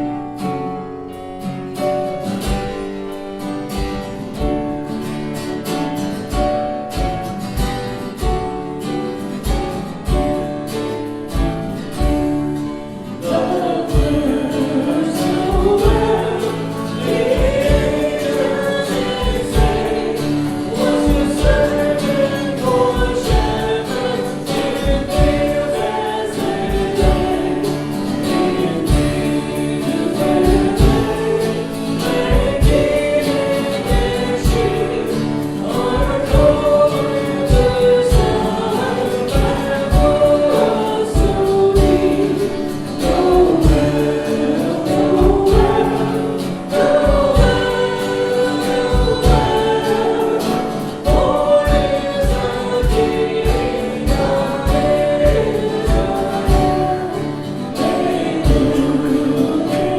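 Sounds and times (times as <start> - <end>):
group singing worship song: 0.0 - 59.9
instrumental accompaniment with beat: 0.4 - 59.9.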